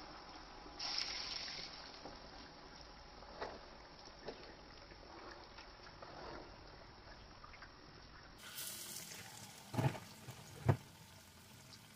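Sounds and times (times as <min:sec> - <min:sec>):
hot oil sizzling: 0:00.0 - 0:06.5, 0:08.4 - 0:11.9.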